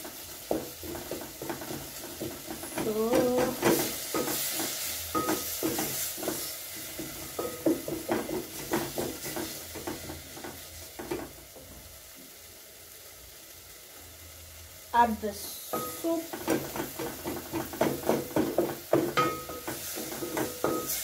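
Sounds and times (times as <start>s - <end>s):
food sizzling in pot: 0.0s - 21.0s.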